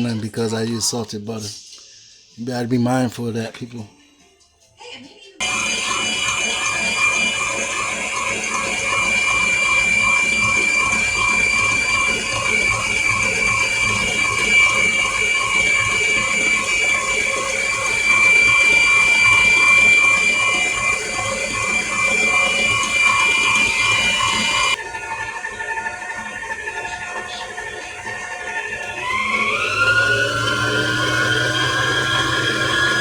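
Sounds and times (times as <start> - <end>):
kitchen appliance motor whining: 5.4 - 33.0.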